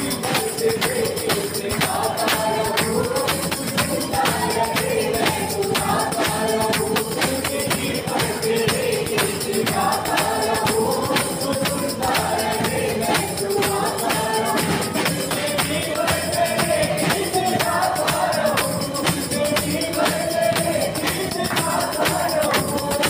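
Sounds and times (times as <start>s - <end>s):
group singing a worship song: 0.0s - 23.0s
hand drums beating: 0.0s - 23.0s
jingling percussion: 0.0s - 23.0s.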